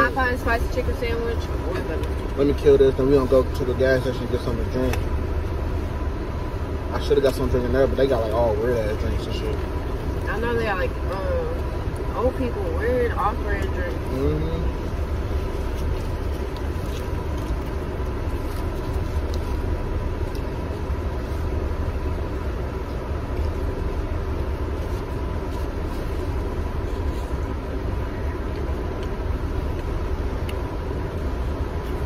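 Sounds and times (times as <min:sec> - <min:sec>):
car cabin rumble: 0:00.0 - 0:32.0.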